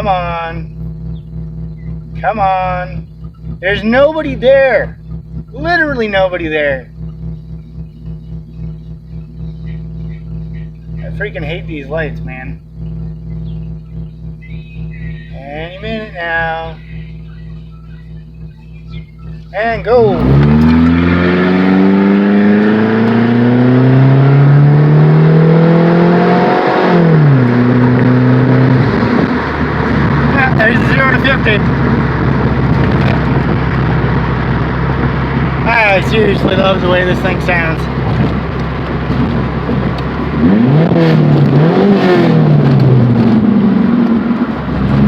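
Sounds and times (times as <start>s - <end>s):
car engine revving at full throttle: 0.0s - 45.0s.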